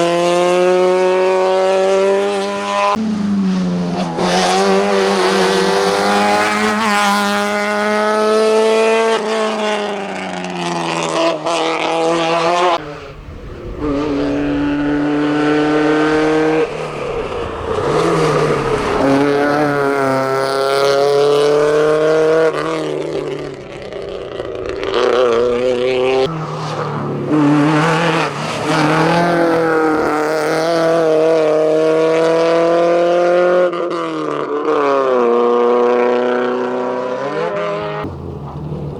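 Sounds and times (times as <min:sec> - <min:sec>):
rally car engine at full throttle: 0:00.0 - 0:38.9.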